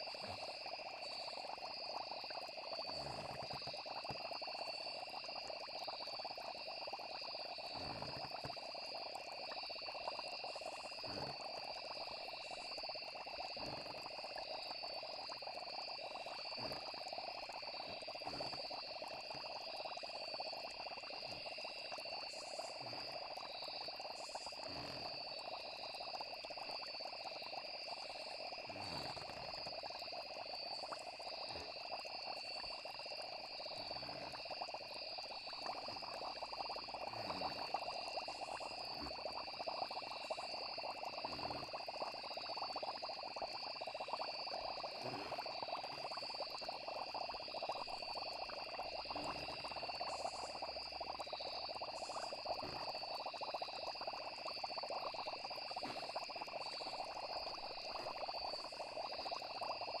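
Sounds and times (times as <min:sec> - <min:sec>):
dense chorus of frogs: 0:00.0 - 1:00.0
insects trilling: 0:00.0 - 1:00.0.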